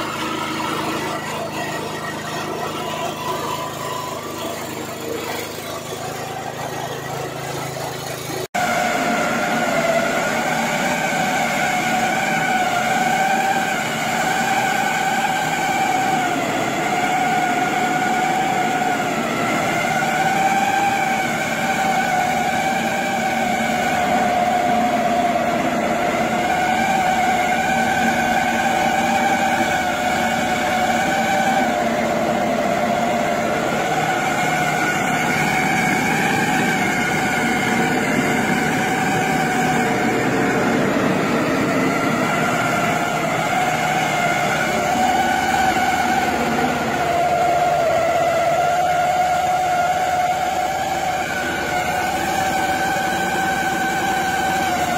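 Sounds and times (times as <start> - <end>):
machine whining over noisy rush: 0.0 - 54.9.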